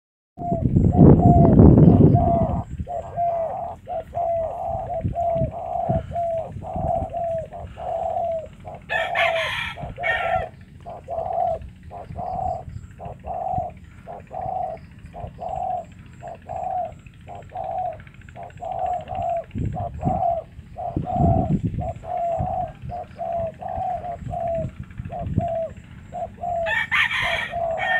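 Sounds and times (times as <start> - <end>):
doves cooing: 0.4 - 27.9
loud low rumble: 0.4 - 27.9.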